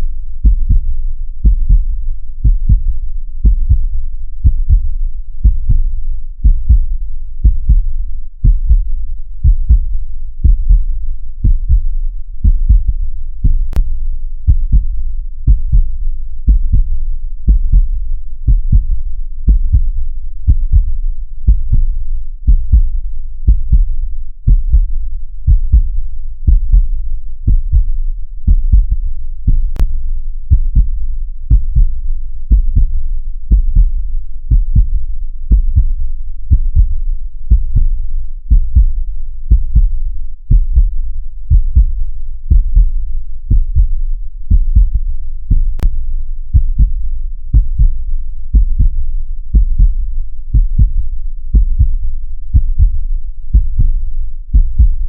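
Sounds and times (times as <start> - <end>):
heartbeat thumps: 0.4 - 13.9, 14.5 - 14.9, 15.5 - 21.9, 22.5 - 29.9, 30.5 - 55.0.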